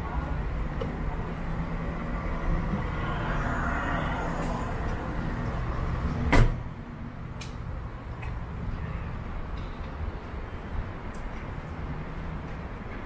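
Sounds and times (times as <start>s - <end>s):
low rumble of passing vehicles: 0.0s - 13.0s.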